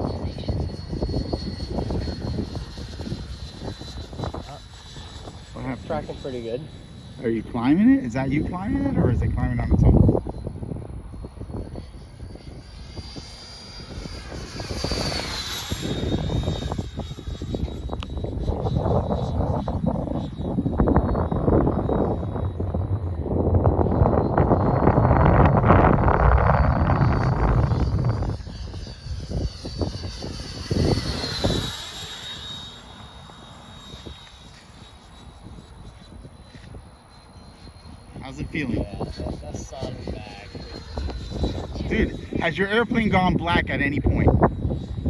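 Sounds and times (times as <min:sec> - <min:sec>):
model jet engine whine: 0:00.0 - 0:45.0
wind buffeting microphone: 0:00.0 - 0:45.0.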